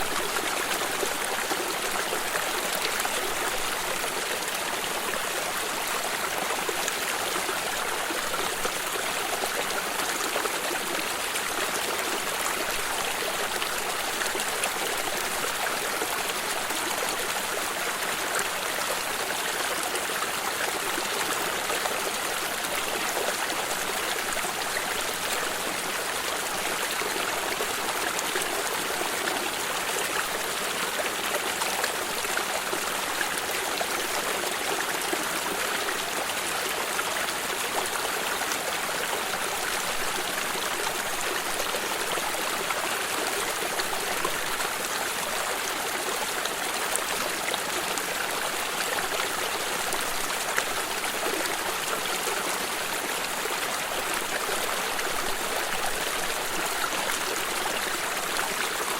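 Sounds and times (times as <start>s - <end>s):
stream running over stones: 0.0s - 58.9s.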